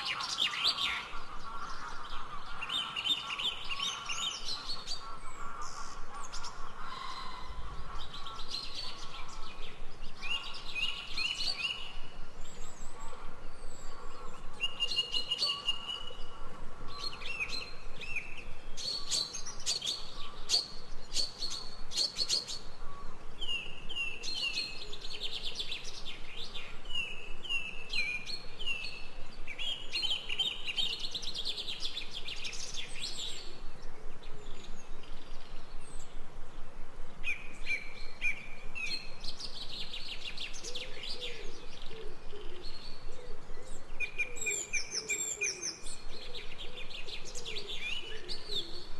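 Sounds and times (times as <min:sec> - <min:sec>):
birds chirping and trilling: 0:00.0 - 0:48.9
faint background hiss: 0:00.0 - 0:48.9.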